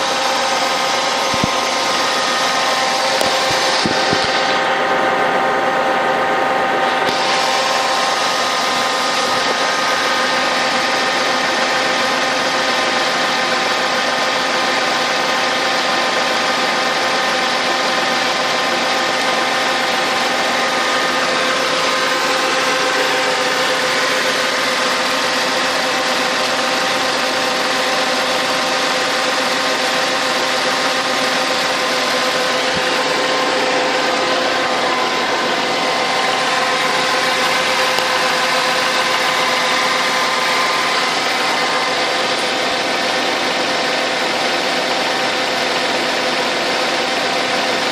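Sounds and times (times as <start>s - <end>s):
car engine idling: 0.0s - 47.9s
engine knocking: 0.0s - 47.9s
steady whining tones: 0.0s - 47.9s.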